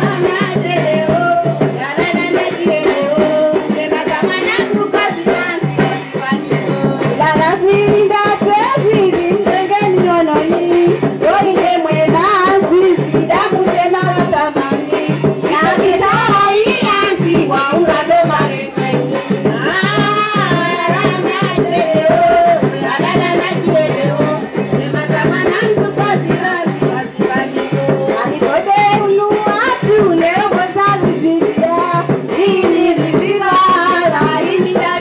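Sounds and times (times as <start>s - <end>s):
steady percussion beat: 0.0s - 35.0s
women's chorus singing: 0.0s - 35.0s.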